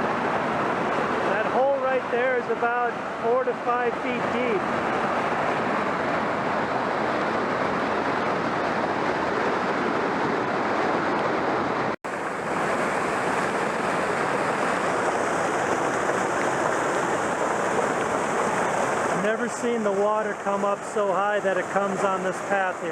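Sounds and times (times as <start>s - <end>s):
creek rushing over rocks: 0.0s - 22.9s.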